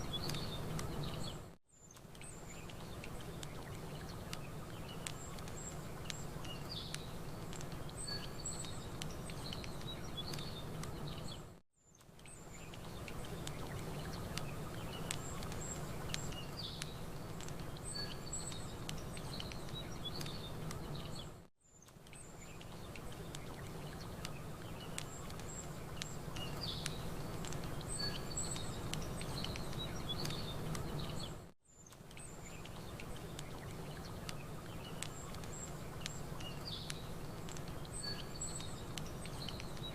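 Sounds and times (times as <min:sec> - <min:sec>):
campfire crackling: 0:00.0 - 0:39.9
small birds chirping: 0:00.0 - 0:39.9.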